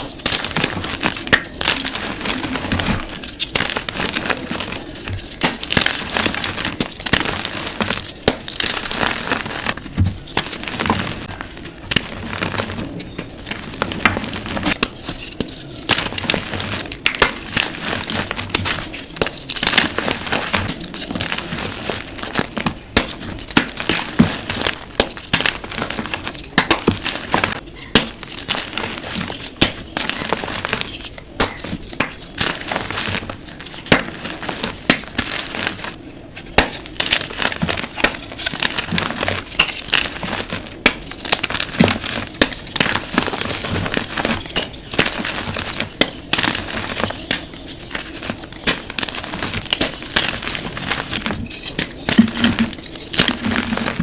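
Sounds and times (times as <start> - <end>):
chalk blocks being crushed: 0.0 - 54.0.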